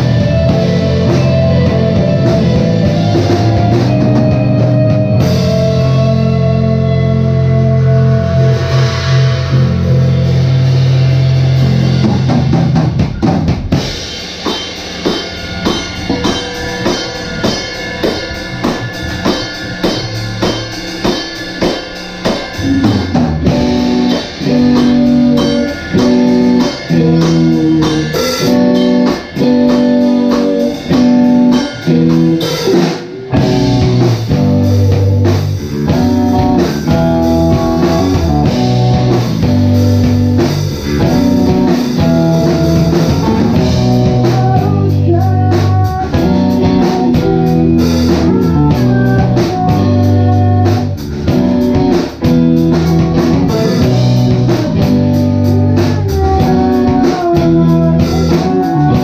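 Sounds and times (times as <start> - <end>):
live band playing: 0.0 - 59.0
drum hits: 8.7 - 59.0.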